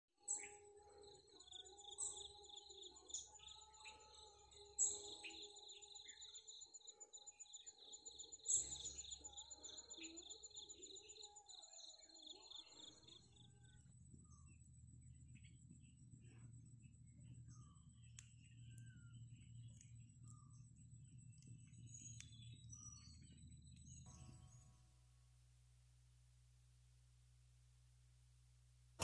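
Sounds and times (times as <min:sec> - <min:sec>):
chorus of insects: 0:00.2 - 0:24.2
pulsing insect trill: 0:00.3 - 0:24.0
bird calls: 0:00.3 - 0:24.6.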